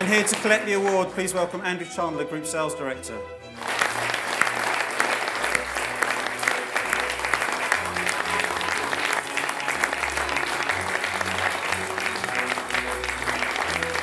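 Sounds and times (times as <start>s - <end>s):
audience applauding: 0.0s - 1.4s, 3.5s - 14.0s
background music: 0.0s - 14.0s.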